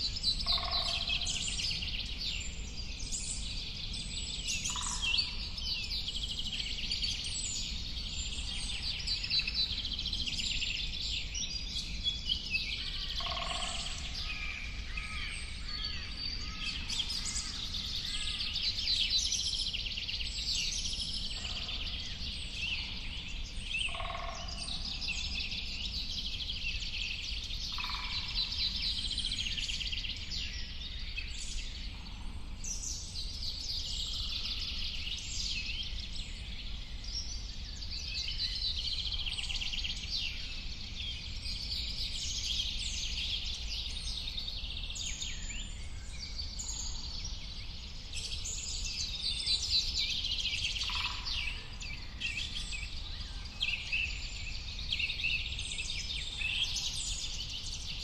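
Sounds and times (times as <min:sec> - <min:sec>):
birds chirping and singing: 0:00.0 - 0:58.0
steady low background noise: 0:00.0 - 0:58.0.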